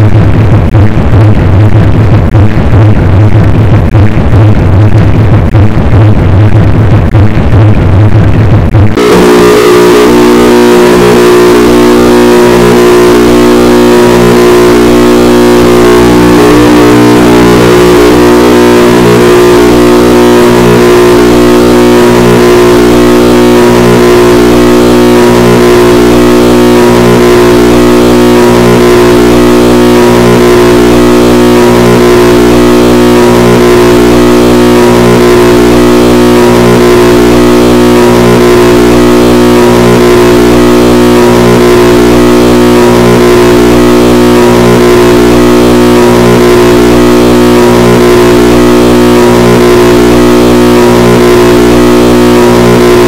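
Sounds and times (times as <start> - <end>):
distorted tuba music: 0.0 - 53.0.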